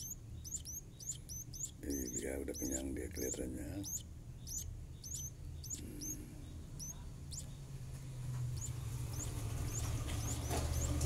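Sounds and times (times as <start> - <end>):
nestlings cheeping: 0.0 - 7.7, 8.5 - 11.0.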